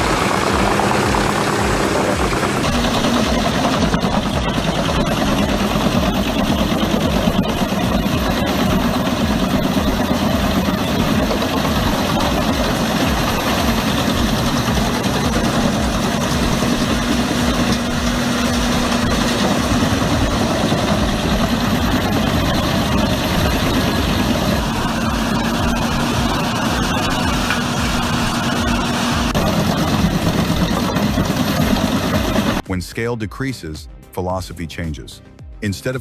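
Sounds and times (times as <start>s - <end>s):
heavy diesel engine running: 0.0s - 32.6s.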